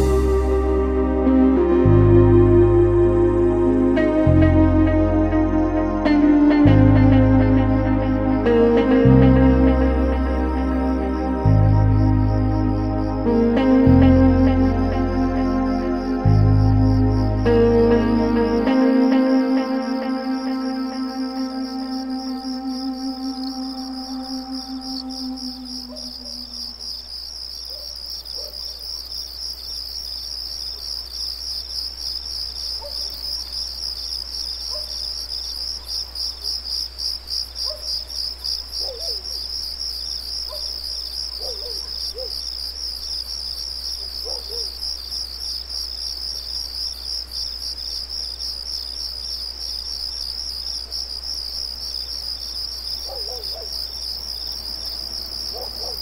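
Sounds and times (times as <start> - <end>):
insects trilling chorus: 10.4 - 56.0.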